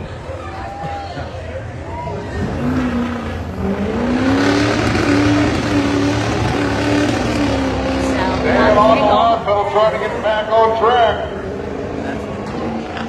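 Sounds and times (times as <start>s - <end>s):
diesel engine revving hard: 2.0s - 13.0s.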